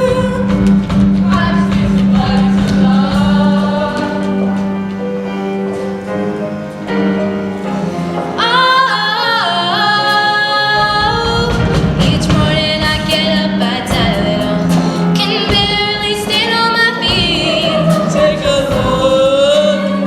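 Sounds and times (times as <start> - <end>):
choir singing: 0.0 - 5.0, 7.6 - 20.0
instrumental accompaniment: 0.0 - 20.0.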